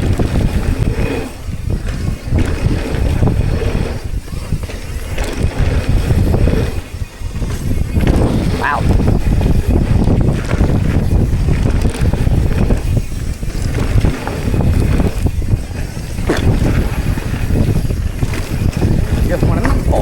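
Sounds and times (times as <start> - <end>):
mountain bike rattling: 0.0 - 20.0
wind buffeting microphone: 0.0 - 20.0.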